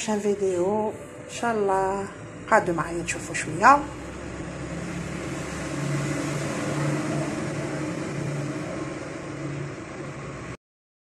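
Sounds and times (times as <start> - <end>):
low mechanical hum: 0.0 - 10.6
rushing background noise: 0.0 - 10.6.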